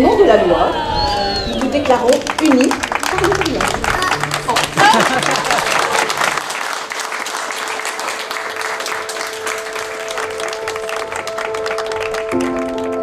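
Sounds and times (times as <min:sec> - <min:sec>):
crowd applauding: 0:00.8 - 0:13.0.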